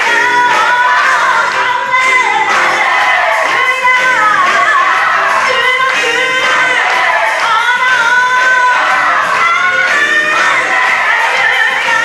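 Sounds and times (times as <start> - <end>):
gospel choir singing: 0.0 - 12.0.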